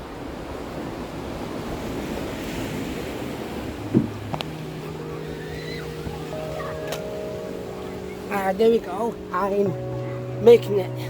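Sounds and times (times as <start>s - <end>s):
ocean surf on shore: 0.0s - 11.0s
wind buffeting microphone: 0.0s - 11.0s.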